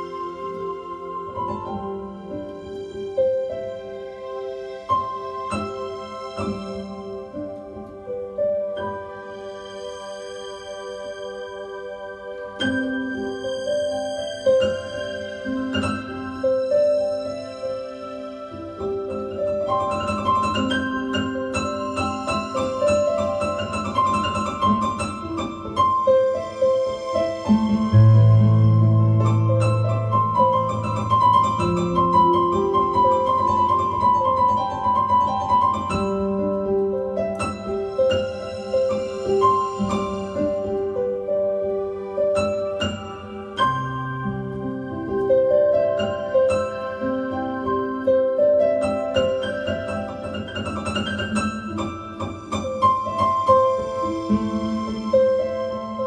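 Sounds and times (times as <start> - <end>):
solo piano improvisation: 0.0 - 56.0.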